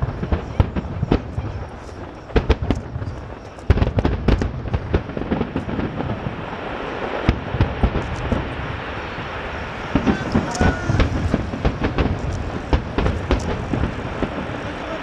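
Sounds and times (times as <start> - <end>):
fireworks booming and crackling: 0.0 - 15.0.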